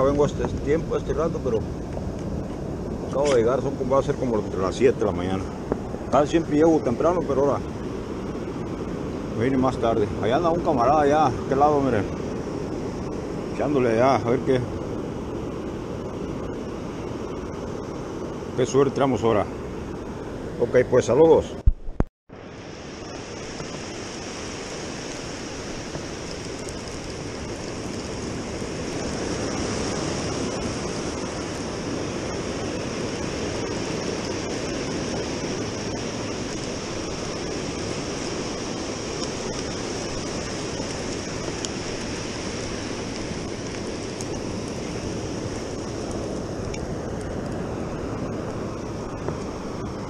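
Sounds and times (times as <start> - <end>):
ocean waves breaking on beach: 0.0 - 21.6, 22.3 - 50.0.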